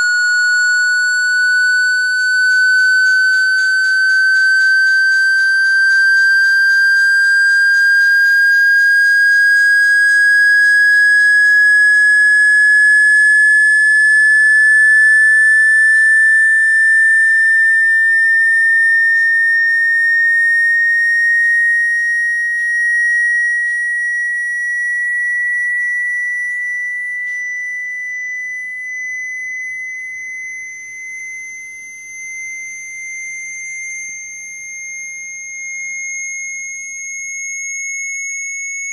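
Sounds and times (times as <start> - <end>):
rising electronic sine tone: 0.0 - 38.9.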